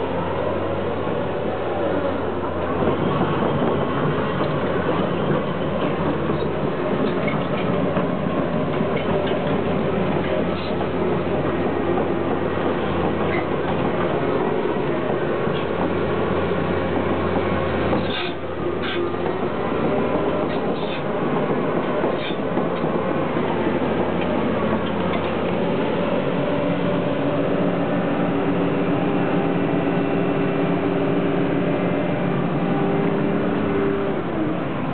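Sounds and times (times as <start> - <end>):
diesel excavator engine running: 0.0 - 34.9
hydraulic whine: 0.0 - 34.9
steel tracks clanking: 0.0 - 34.9.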